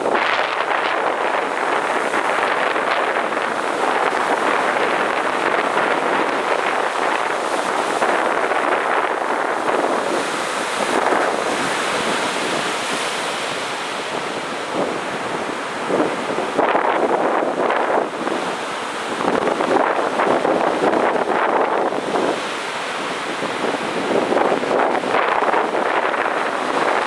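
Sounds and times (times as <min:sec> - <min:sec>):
ocean surf on a beach: 0:00.0 - 0:27.0
wind buffeting the microphone: 0:00.0 - 0:27.0.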